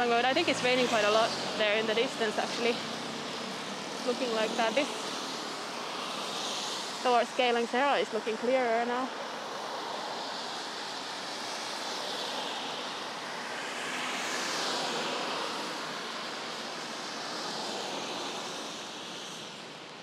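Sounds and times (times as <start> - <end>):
tyre hiss on wet road: 0.5 - 8.4, 9.1 - 20.0.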